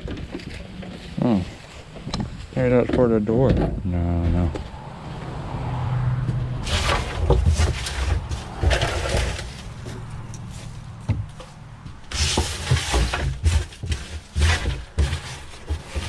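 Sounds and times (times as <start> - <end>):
knocks and scraping of debris: 0.0 - 4.8, 6.3 - 16.0.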